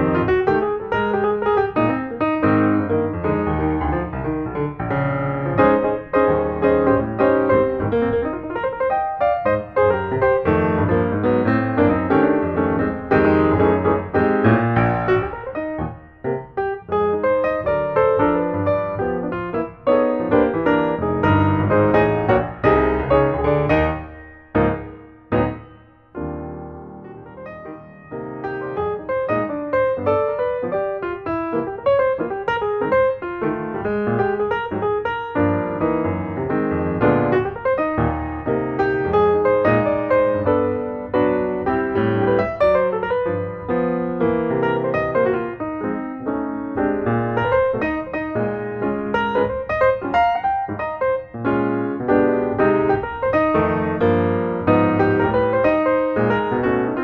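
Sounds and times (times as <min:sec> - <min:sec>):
instrumental piano music: 0:00.0 - 0:57.0.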